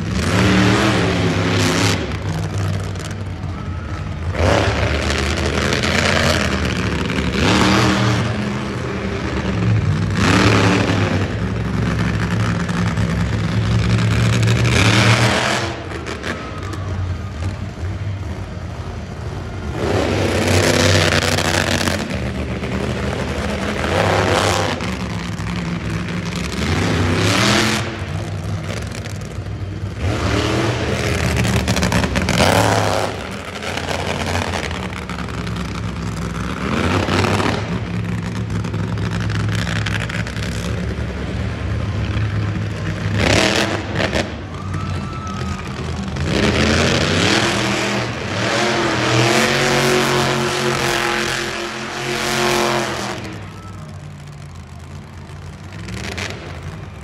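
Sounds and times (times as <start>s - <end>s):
monster truck engine revving: 0.0s - 57.0s.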